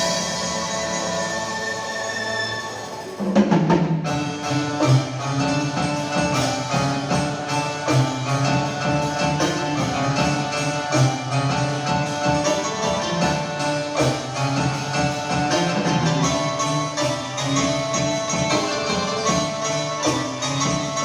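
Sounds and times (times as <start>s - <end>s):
instrumental music with steady beat: 3.2s - 21.0s.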